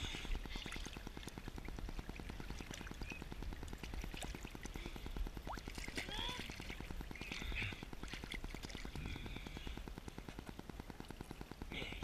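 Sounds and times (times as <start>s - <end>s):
small waves lapping: 0.0s - 11.7s.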